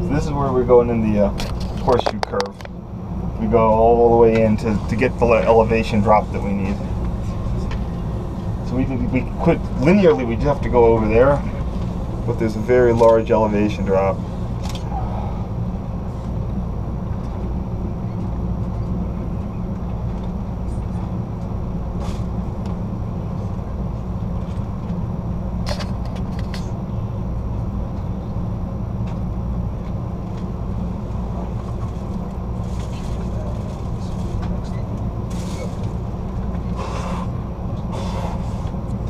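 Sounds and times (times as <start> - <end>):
train car rumbling on track: 0.0 - 39.0.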